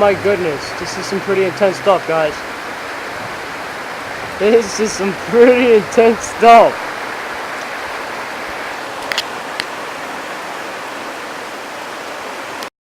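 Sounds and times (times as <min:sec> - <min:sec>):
heavy rain falling: 0:00.0 - 0:12.7.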